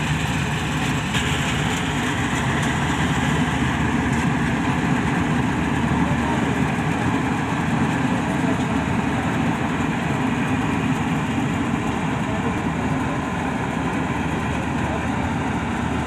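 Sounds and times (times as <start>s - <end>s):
combine harvester engine rumble: 0.0s - 16.0s.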